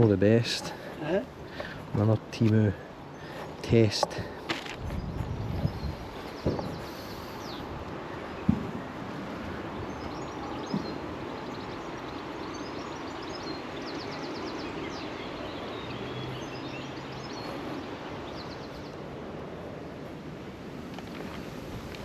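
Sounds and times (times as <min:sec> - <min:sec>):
small birds chirping: 0:00.0 - 0:20.2.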